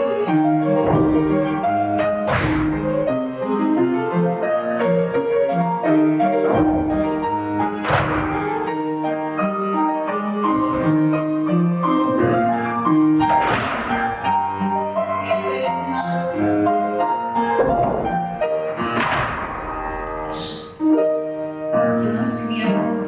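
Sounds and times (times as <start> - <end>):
piano playing chords: 0.0 - 23.0.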